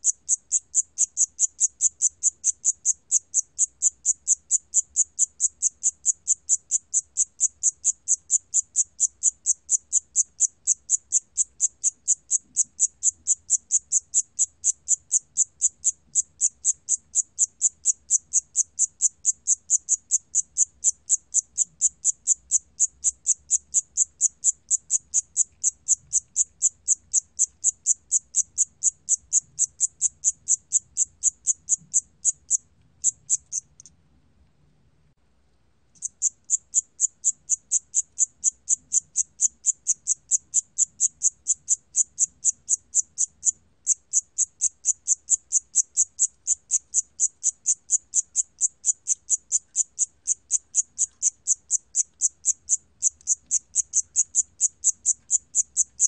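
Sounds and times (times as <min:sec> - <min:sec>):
cricket chirping: 0:00.0 - 0:33.9, 0:36.0 - 0:56.0.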